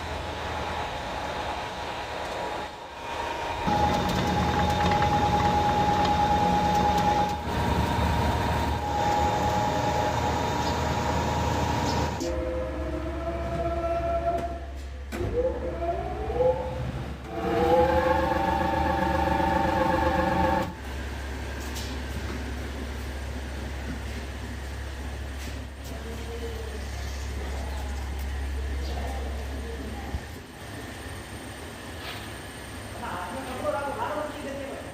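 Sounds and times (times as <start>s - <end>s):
factory motor whine: 0.0s - 34.9s
low machinery hum: 0.0s - 34.9s.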